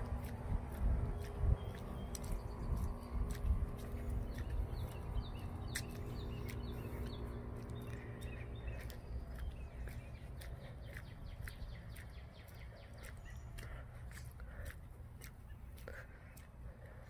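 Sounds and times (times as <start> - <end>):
wind rumble on microphone: 0.0 - 13.7
birds chirping: 0.0 - 17.0.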